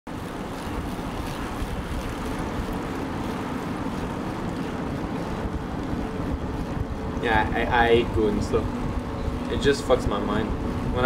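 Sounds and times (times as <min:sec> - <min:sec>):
low rumbling wind: 0:00.1 - 0:11.0.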